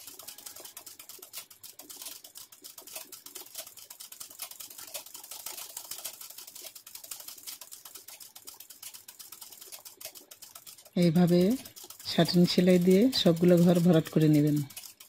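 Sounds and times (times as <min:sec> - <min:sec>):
sewing machine stitching: 0:00.0 - 0:15.0.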